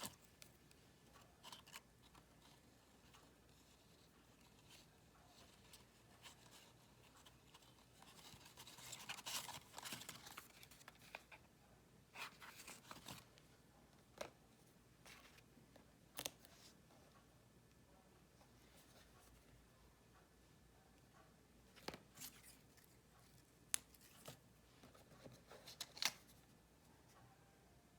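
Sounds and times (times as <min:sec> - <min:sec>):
faint paper rustling: 0:00.0 - 0:17.2, 0:21.7 - 0:27.3.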